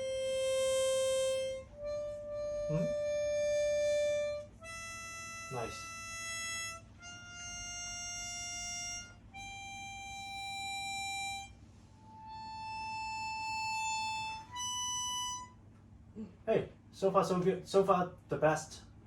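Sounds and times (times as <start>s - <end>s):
harmonica notes: 0.0s - 16.2s.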